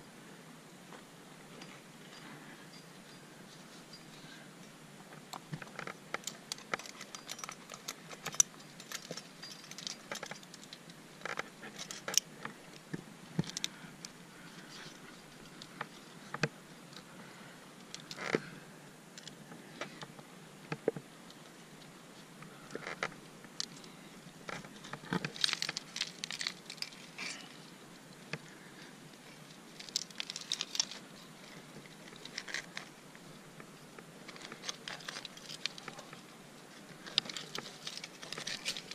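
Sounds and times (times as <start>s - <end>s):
metal climbing gear clinking: 1.5s - 17.1s, 17.8s - 18.4s, 22.6s - 38.9s.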